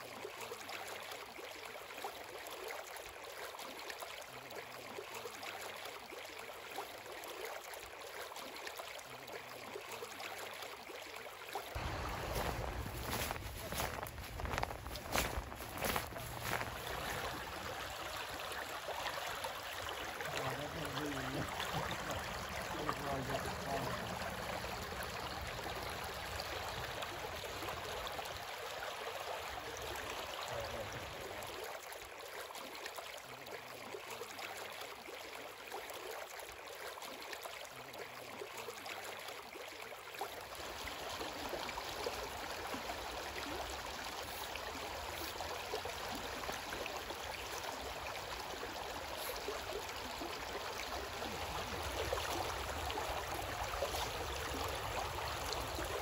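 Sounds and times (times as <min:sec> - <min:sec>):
creek water babbling over stones: 0:00.0 - 0:56.0.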